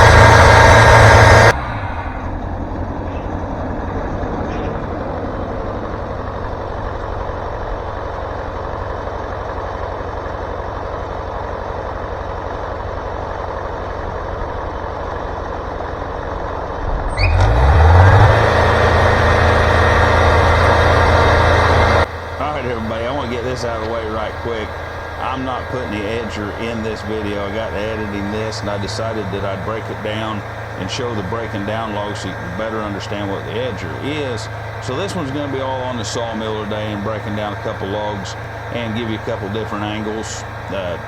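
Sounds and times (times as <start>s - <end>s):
diesel engine running and revving: 0.0s - 41.0s.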